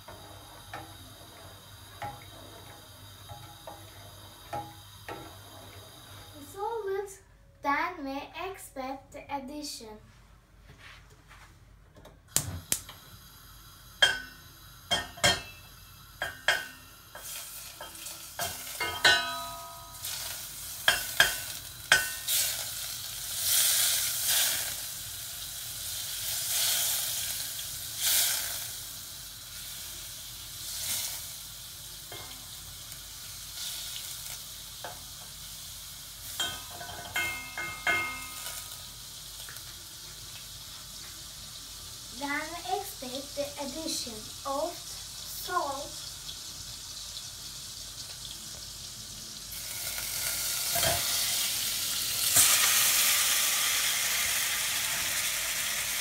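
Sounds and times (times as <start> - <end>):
margarine sizzling: 0.0 - 10.0, 12.3 - 56.0.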